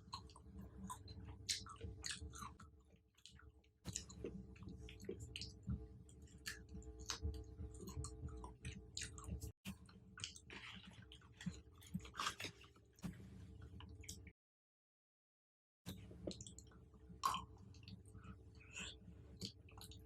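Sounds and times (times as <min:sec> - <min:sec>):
chewing fruit with mouth sounds: 0:00.0 - 0:14.3, 0:15.9 - 0:20.0.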